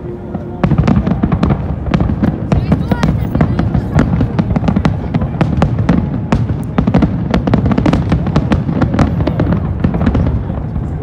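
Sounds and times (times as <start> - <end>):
fireworks booms and cracks: 0.0 - 11.0.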